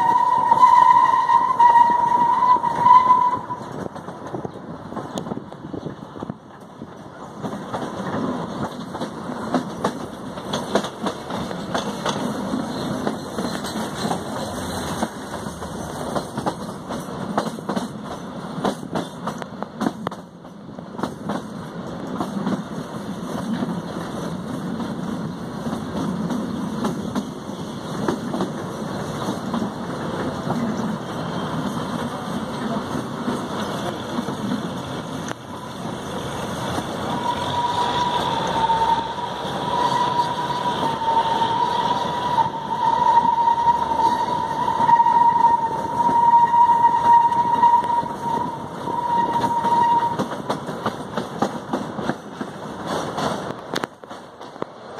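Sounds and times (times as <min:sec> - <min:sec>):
train low drone: 0:00.0 - 0:54.9
wheels clicking on rails: 0:00.0 - 0:54.9.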